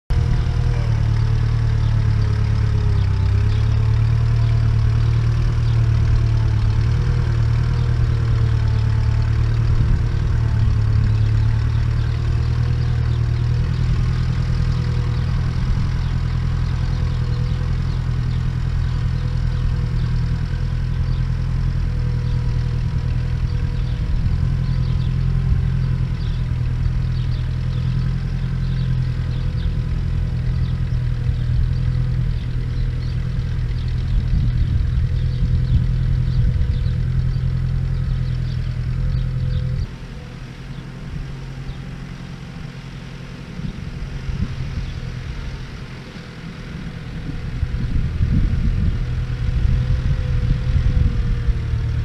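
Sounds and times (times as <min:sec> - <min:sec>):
tractor engine running under load: 0:00.1 - 0:52.0.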